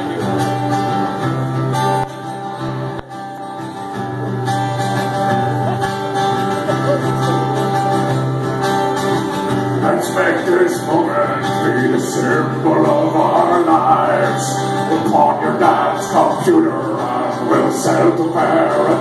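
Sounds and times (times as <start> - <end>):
live band sustained chords: 0.0 - 19.0.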